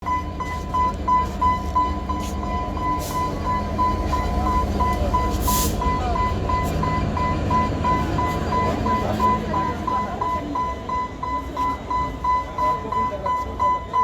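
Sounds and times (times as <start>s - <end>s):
crossing signal beeping: 0.0s - 14.0s
train rumble: 0.0s - 14.0s.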